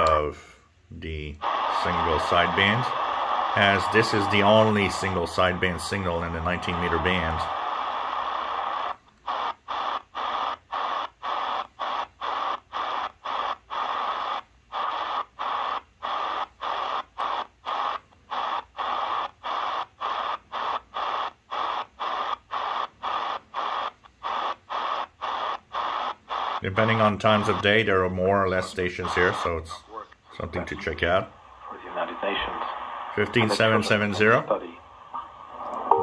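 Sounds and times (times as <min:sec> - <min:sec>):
shortwave radio static bursts: 0:00.0 - 0:36.0.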